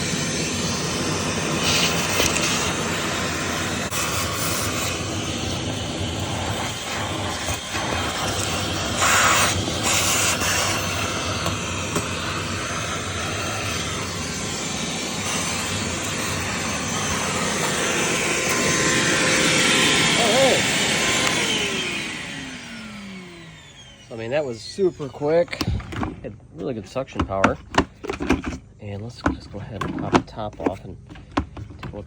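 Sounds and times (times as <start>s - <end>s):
shop vacuum sucking dirt: 0.0s - 32.0s.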